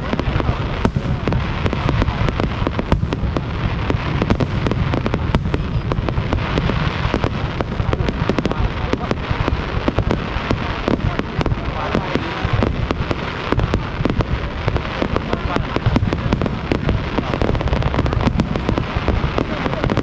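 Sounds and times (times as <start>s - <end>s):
fireworks bangs and pops: 0.0s - 20.0s
steady low rumble: 0.0s - 20.0s.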